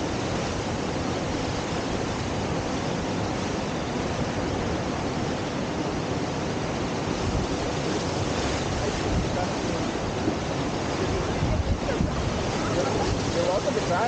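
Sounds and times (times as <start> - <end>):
whitewater roar: 0.0 - 14.0.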